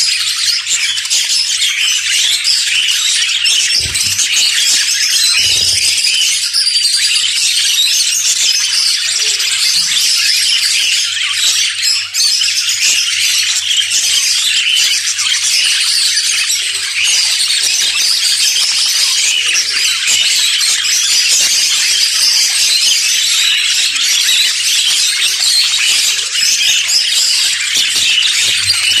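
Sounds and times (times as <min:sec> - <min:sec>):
budgerigars chattering: 0:00.0 - 0:29.0.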